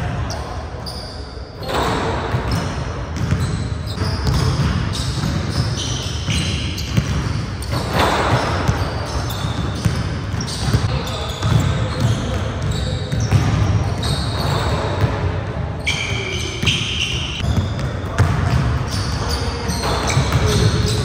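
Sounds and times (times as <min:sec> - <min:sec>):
basketballs bouncing on wood floor: 0:01.9 - 0:15.3, 0:16.6 - 0:21.0.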